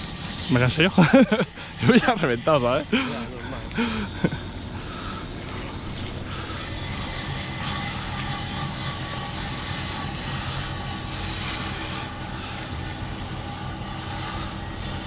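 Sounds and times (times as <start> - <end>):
steady mechanical drone: 0.0 - 15.0.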